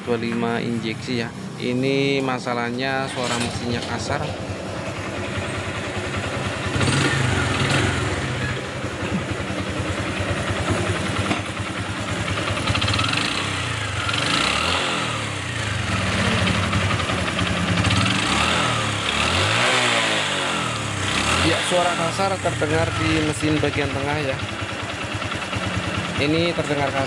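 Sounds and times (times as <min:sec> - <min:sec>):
motorcycle engine running rough: 0:03.2 - 0:27.0.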